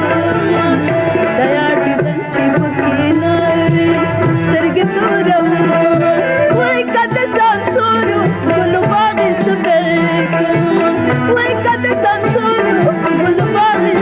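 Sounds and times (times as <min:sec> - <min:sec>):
hand drum beats: 0:00.0 - 0:14.0
sustained instrumental tones: 0:00.0 - 0:14.0
woman singing: 0:00.0 - 0:14.0.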